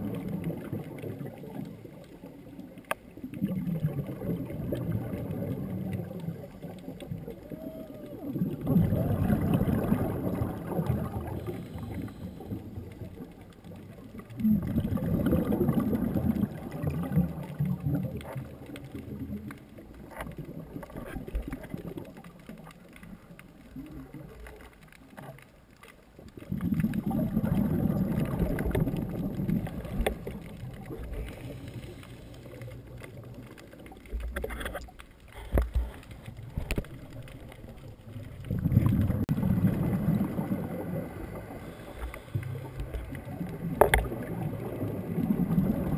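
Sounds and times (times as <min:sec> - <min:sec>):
diver's exhaled bubbles underwater: 0:00.0 - 0:25.4, 0:26.2 - 0:45.9.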